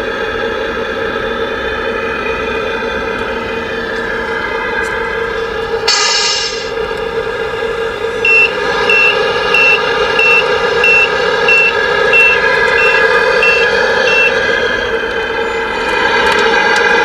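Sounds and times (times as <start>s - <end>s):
diesel truck engine sound: 0.0s - 17.0s
reversing beeper: 1.4s - 16.3s.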